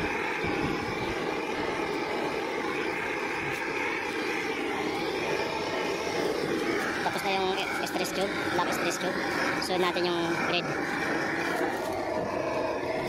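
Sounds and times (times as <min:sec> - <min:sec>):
gas blowtorch burning: 0:00.0 - 0:13.0.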